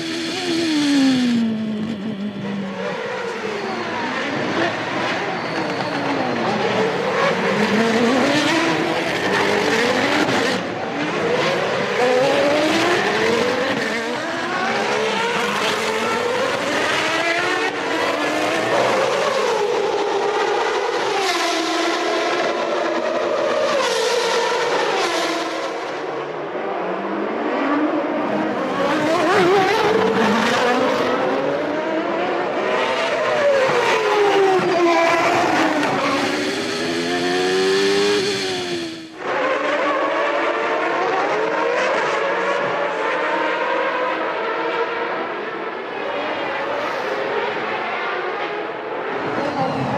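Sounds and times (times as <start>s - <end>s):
racing car engines: 0.0s - 49.9s.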